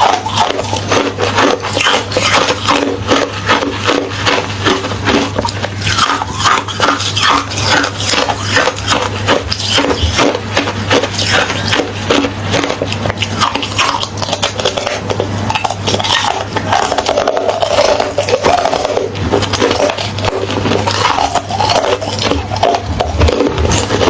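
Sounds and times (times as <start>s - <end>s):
chewing crunchy ice: 0.0s - 24.0s
steady low hum: 0.0s - 24.0s.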